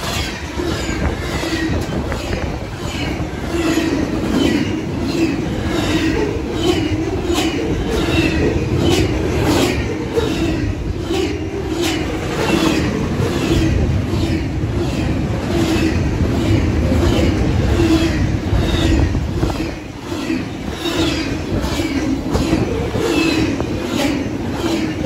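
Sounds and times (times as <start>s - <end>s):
freight train rumbling past: 0.0s - 25.0s
wheels clacking on rails: 0.0s - 25.0s
wind buffeting microphone: 0.0s - 25.0s.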